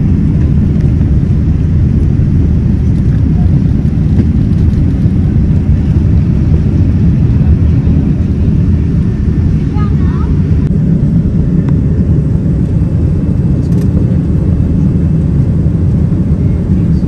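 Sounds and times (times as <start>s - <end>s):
airliner cabin jet drone: 0.0s - 17.0s.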